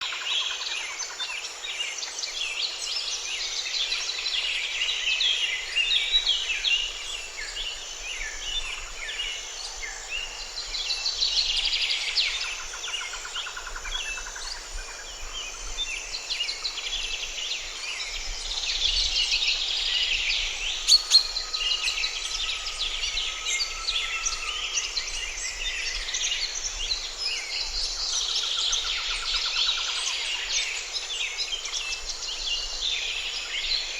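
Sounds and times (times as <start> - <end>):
birds singing and chirping: 0.0 - 33.9.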